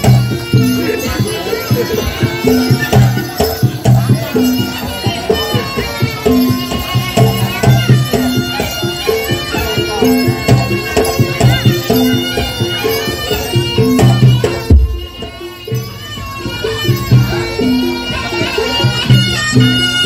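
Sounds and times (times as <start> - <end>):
drums and gongs: 0.0 - 20.0
shrill shawm melody: 0.0 - 20.0.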